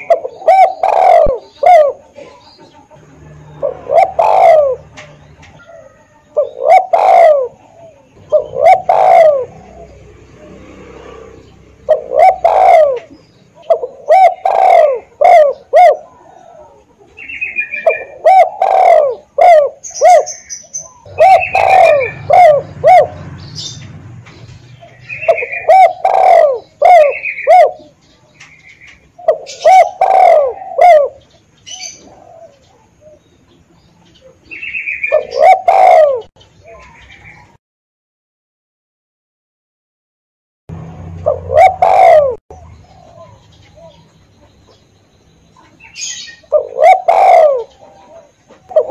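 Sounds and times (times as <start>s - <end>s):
dove cooing: 0.0s - 23.8s, 24.6s - 37.6s, 41.1s - 44.8s, 45.6s - 48.9s
small birds chirping: 0.0s - 37.6s, 41.1s - 48.9s.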